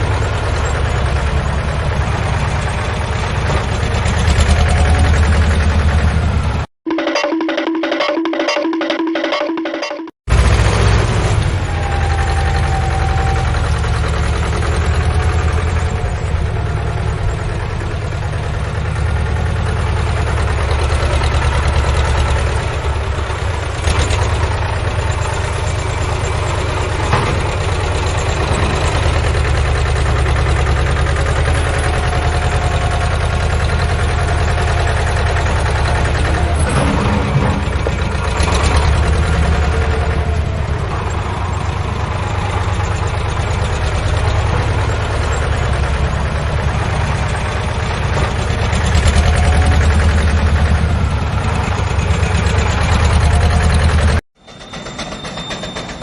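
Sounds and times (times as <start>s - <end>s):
tractor engine idling: 0.0s - 6.6s, 11.8s - 36.6s, 37.3s - 54.1s.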